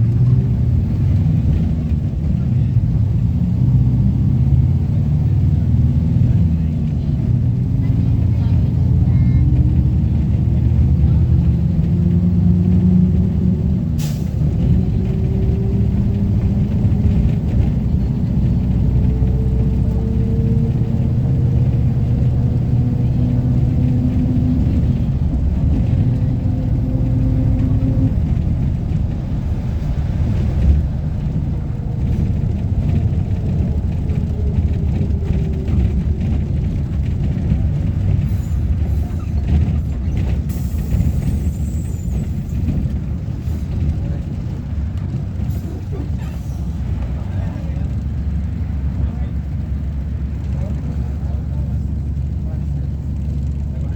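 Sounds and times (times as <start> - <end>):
bus differential whine: 0.0 - 53.9
diesel engine rumbling: 0.0 - 53.9.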